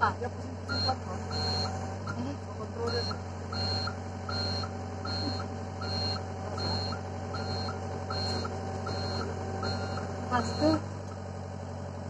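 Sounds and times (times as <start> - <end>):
excavator engine running: 0.0 - 12.0
short electronic beeps: 0.7 - 10.8.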